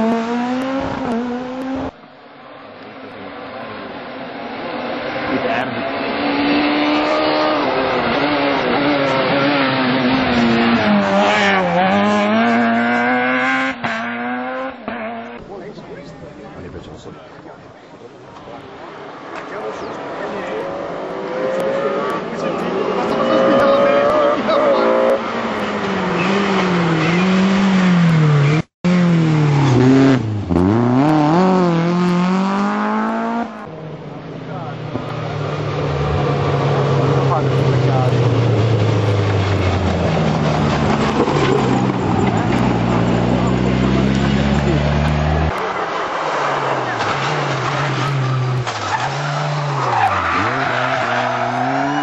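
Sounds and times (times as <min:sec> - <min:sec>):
rally car engine revving: 0:00.0 - 0:02.0, 0:03.1 - 0:15.8, 0:18.4 - 0:52.0.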